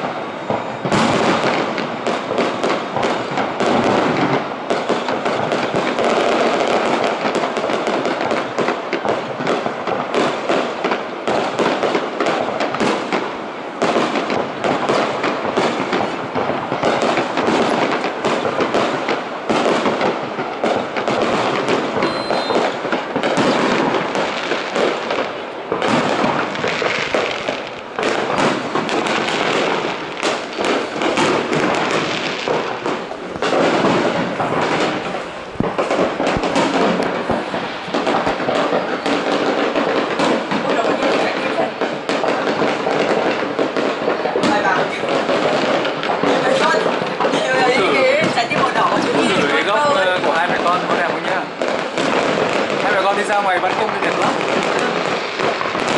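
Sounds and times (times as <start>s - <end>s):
fireworks bangs and crackling pops: 0.0s - 55.9s.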